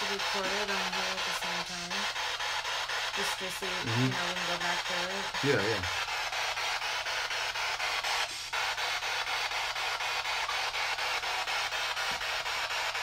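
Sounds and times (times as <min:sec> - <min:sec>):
pulsing radio static: 0:00.0 - 0:13.0.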